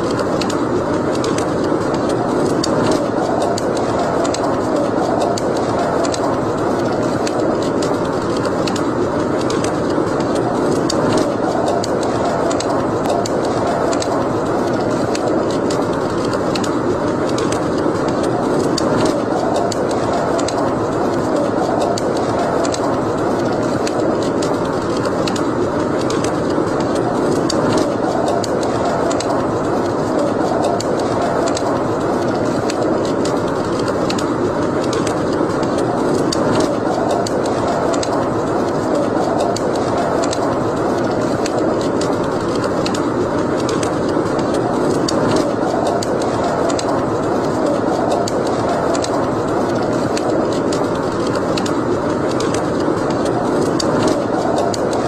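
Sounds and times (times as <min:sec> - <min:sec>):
roar of fire flames: 0:00.0 - 0:55.0
wood fire crackles and pops: 0:00.0 - 0:55.0.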